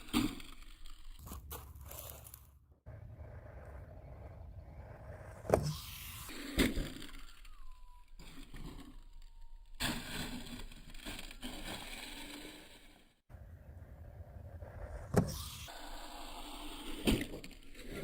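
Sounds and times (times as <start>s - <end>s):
rc truck running over loose ground: 0.0s - 13.1s, 14.8s - 18.0s.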